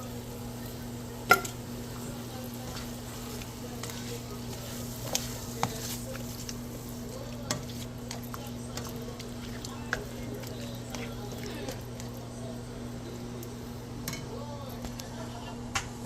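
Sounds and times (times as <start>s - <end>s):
fish sizzling in a pot: 0.0s - 14.4s.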